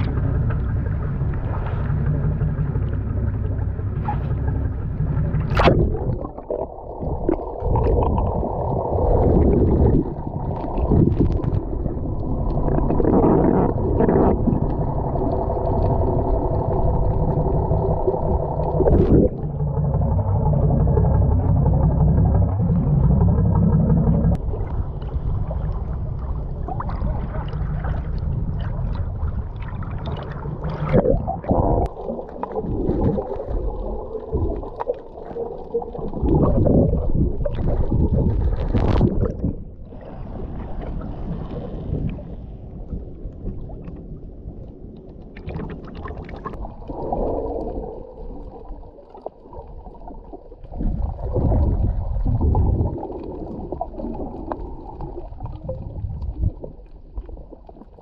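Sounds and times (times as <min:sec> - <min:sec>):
low rumble: 0:00.0 - 0:58.0
water sloshing and gurgling: 0:00.0 - 0:58.0
water splashes: 0:00.0 - 0:58.0.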